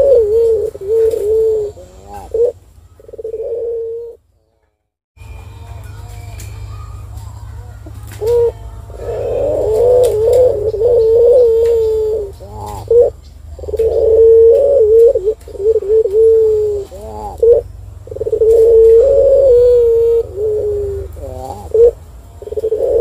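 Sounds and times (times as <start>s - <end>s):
dove cooing: 0.0s - 4.2s, 6.7s - 23.0s.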